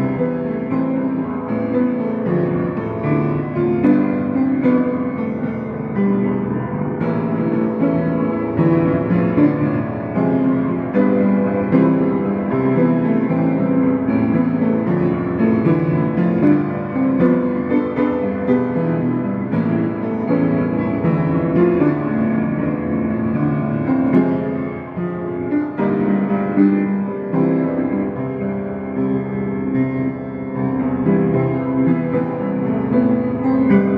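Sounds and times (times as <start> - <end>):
solo piano pop song: 0.0 - 33.9.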